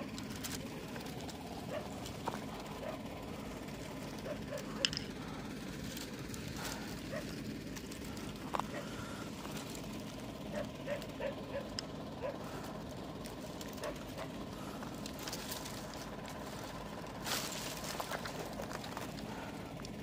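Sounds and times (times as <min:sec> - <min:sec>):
car engine idling: 0:00.0 - 0:20.0
twigs crackling underfoot: 0:00.0 - 0:20.0.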